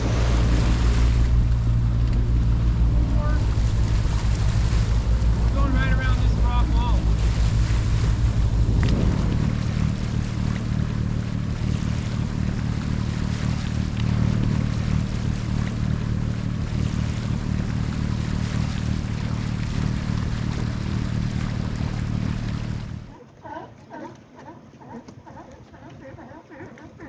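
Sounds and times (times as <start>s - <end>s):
wind and water hiss: 0.0s - 23.2s
boat engine running: 0.0s - 27.0s.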